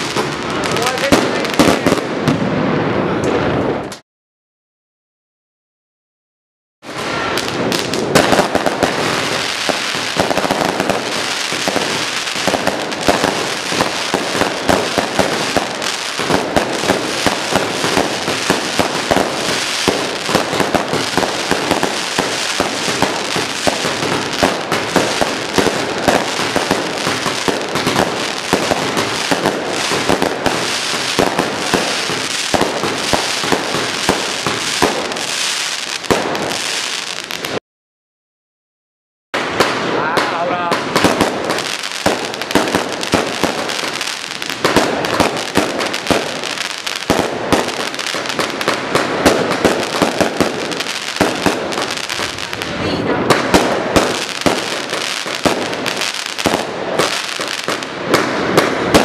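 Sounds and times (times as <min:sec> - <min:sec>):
fireworks and firecrackers exploding: 0:00.0 - 0:04.0, 0:06.8 - 0:37.6, 0:39.4 - 0:59.0.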